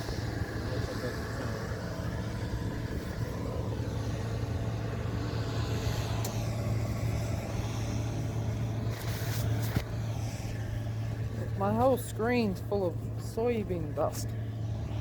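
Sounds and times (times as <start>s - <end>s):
combine harvester humming: 0.0s - 15.0s.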